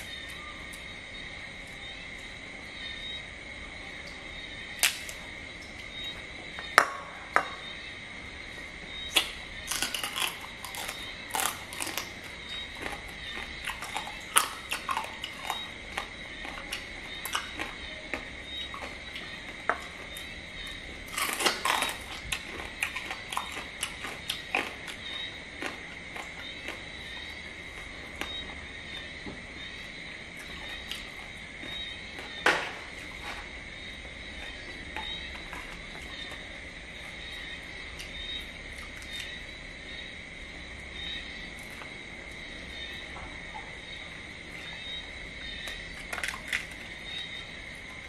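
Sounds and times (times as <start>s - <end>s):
steady high-pitched whine: 0.0s - 48.0s
crunching and chewing crab: 4.0s - 40.2s, 40.8s - 48.0s.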